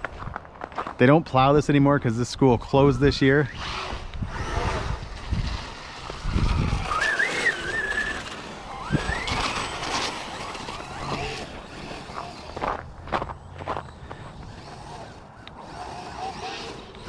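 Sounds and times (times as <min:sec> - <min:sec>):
electric motor whining: 0:02.6 - 0:17.0.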